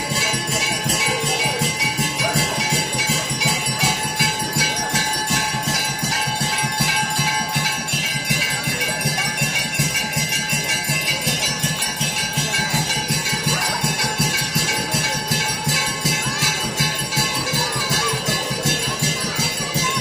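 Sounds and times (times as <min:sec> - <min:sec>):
fast percussion beat: 0:00.0 - 0:20.0
temple bells ringing: 0:00.0 - 0:20.0.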